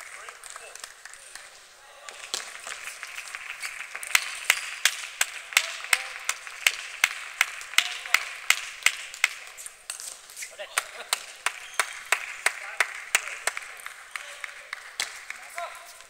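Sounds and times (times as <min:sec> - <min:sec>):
hand claps: 0:00.0 - 0:16.0.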